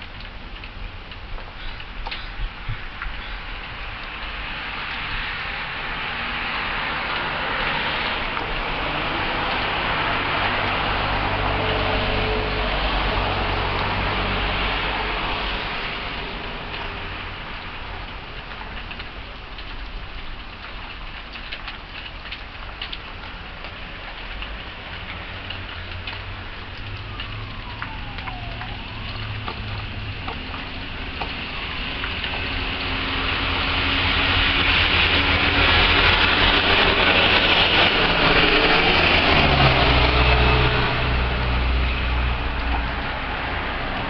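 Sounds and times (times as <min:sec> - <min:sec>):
hailstones ticking: 0:00.0 - 0:11.4, 0:15.0 - 0:40.7
rain and hail falling: 0:00.0 - 0:44.0
traffic on wet road: 0:00.0 - 0:44.0
traffic engine hum: 0:00.3 - 0:19.9, 0:22.3 - 0:44.0.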